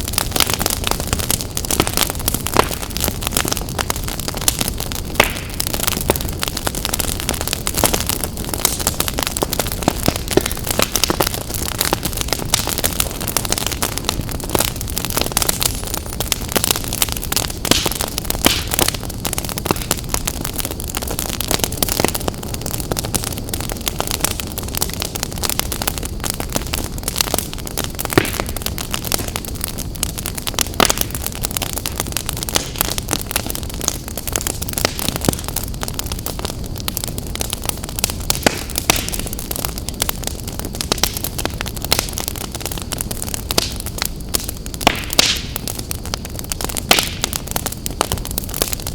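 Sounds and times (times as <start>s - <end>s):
steady fire hiss: 0.0s - 48.9s
wood fire crackling and popping: 0.0s - 48.9s.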